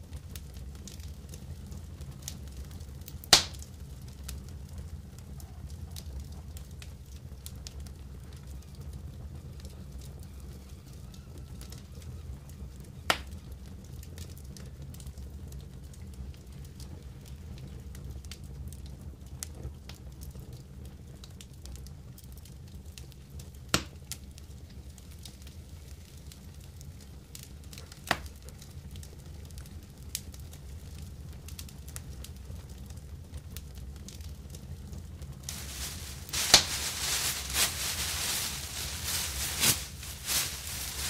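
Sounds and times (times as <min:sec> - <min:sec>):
campfire crackling: 0:00.0 - 0:41.0
fire popping: 0:00.0 - 0:41.0
low fire rumble: 0:00.0 - 0:41.0.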